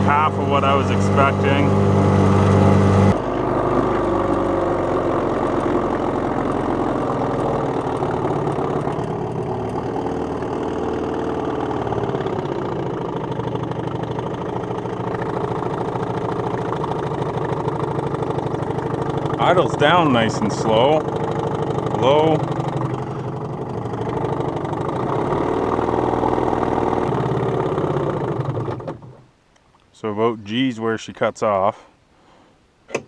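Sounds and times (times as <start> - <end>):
outboard motor running: 0.0 - 29.3.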